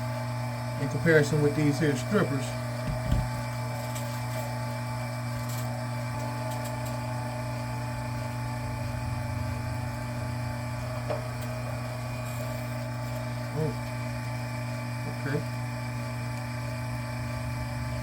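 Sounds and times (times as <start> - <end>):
machine motor humming: 0.0 - 18.0.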